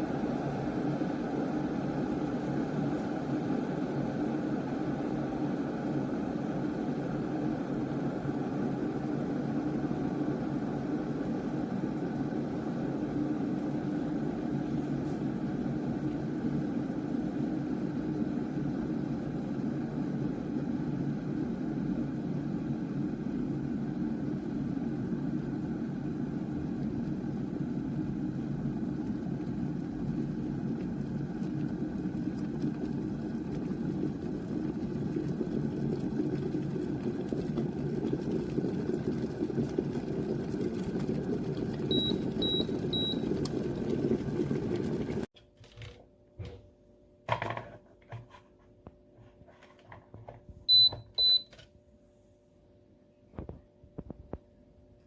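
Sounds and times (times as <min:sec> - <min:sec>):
kettle water boiling: 0:00.0 - 0:45.3.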